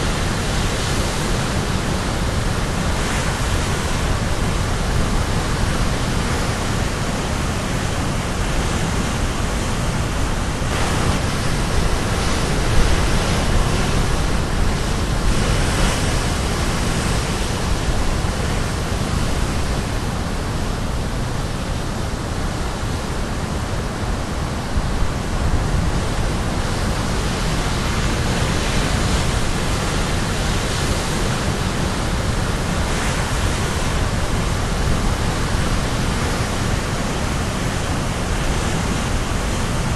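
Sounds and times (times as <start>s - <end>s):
waves crashing on shore: 0.0s - 39.9s.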